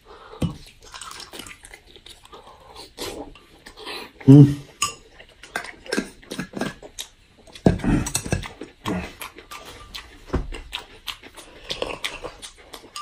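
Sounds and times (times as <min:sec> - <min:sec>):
chewing and mouth sounds: 0:00.3 - 0:13.0.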